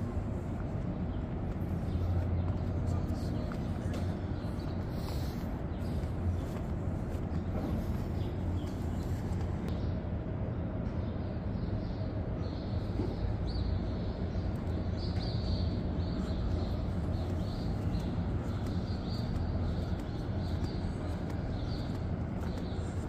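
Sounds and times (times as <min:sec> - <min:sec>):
low background rumble: 0:00.0 - 0:23.0
small birds chirping: 0:00.0 - 0:23.0.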